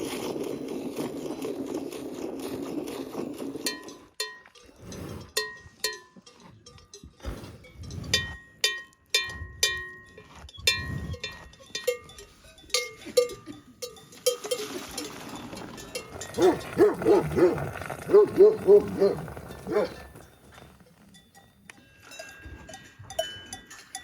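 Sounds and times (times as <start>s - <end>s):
cowbell clanking: 3.6s - 17.5s, 18.6s - 24.0s.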